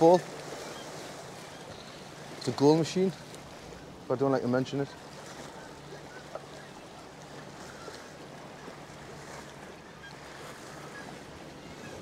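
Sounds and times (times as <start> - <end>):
sea washing: 0.0 - 12.0
wind: 0.0 - 12.0.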